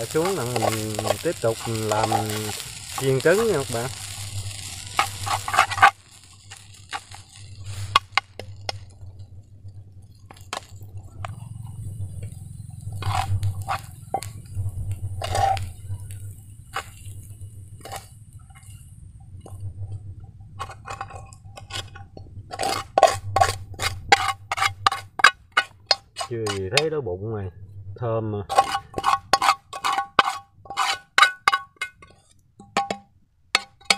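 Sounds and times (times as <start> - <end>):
utensil scraping a frying pan: 0.0 - 9.0, 10.3 - 18.8, 20.6 - 26.9, 28.4 - 33.9
steady low hum: 0.0 - 30.8.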